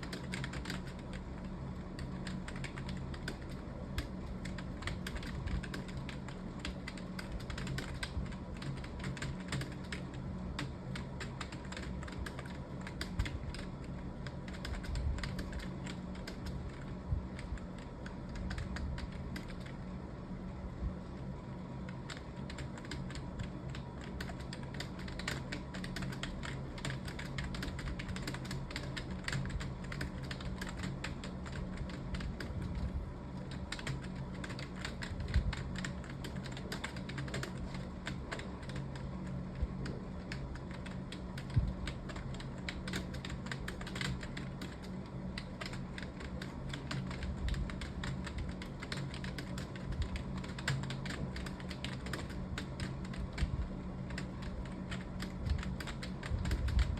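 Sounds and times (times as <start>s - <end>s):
fast keyboard typing: 0.0s - 20.0s, 21.2s - 56.9s
steady low hum: 0.0s - 56.9s.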